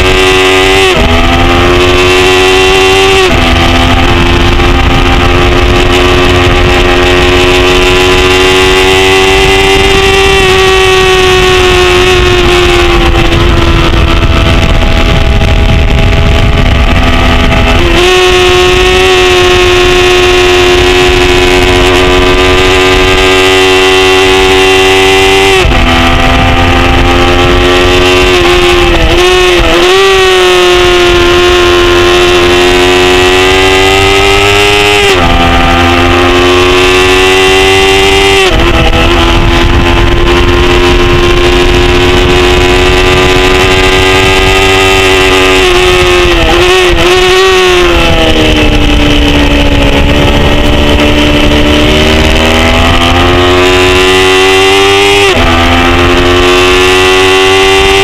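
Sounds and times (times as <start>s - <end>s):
motorcycle engine at high revs: 0.0s - 58.0s
wind rush: 0.0s - 58.0s.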